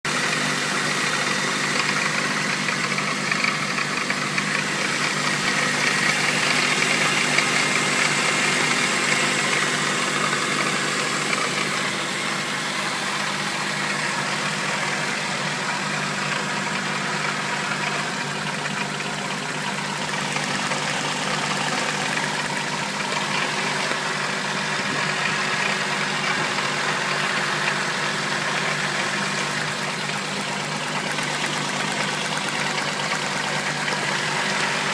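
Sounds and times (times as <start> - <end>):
car engine idling with knocking: 0.0 - 34.9.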